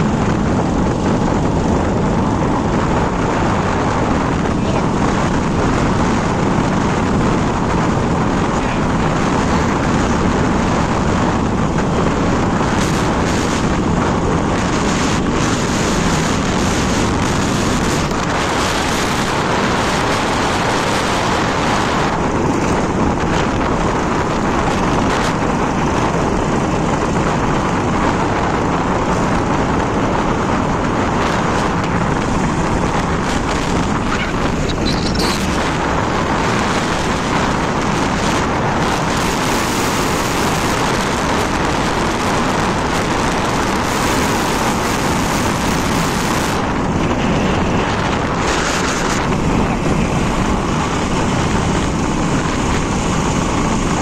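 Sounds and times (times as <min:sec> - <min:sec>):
motorcycle engine and road noise: 0:00.0 - 0:54.0
wind on microphone: 0:00.0 - 0:54.0.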